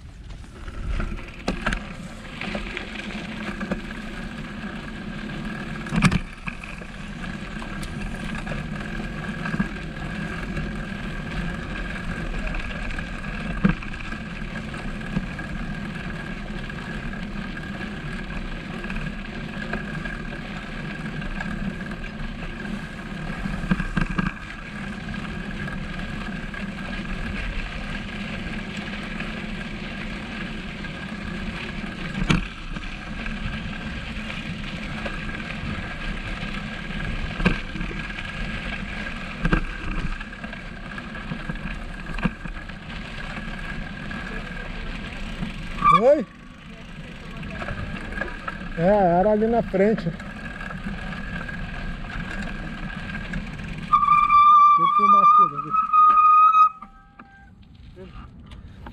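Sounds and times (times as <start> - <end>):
bicycle rolling and rattling: 0.0 - 58.9
bicycle knocking over bumps: 0.1 - 55.2.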